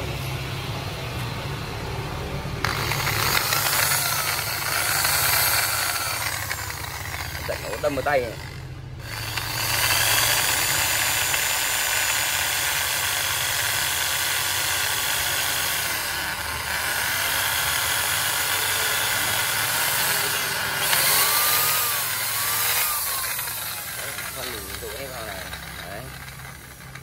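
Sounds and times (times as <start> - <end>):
electric drill boring into bamboo: 2.6 - 27.0.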